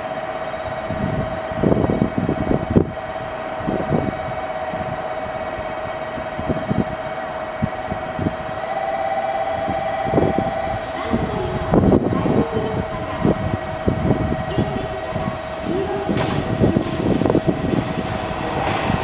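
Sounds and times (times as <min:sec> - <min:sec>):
electric train hum: 0:00.0 - 0:19.0.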